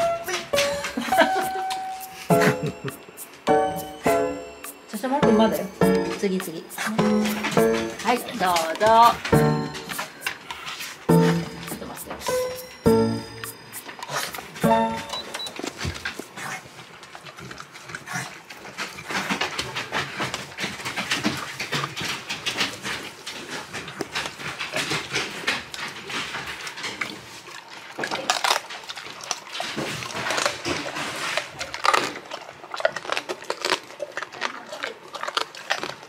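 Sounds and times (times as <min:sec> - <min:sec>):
dog chewing meat noisily: 0:05.0 - 0:36.0.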